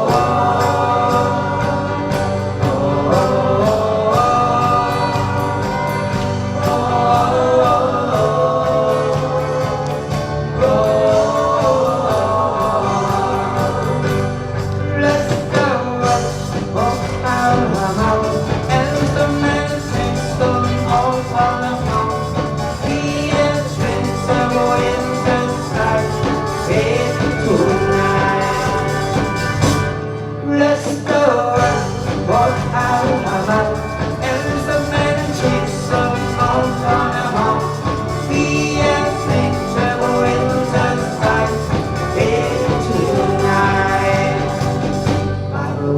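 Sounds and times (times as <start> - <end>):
bass: 0.0 - 45.9
live band playing pop song: 0.0 - 45.9
person singing: 0.0 - 45.9.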